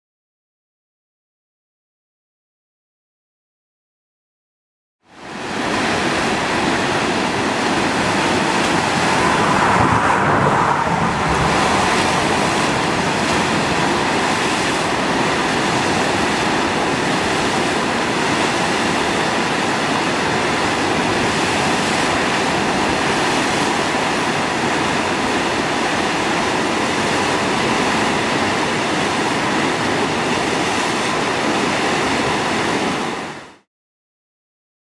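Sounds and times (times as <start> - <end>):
roar of churning whitewater: 5.1 - 33.6.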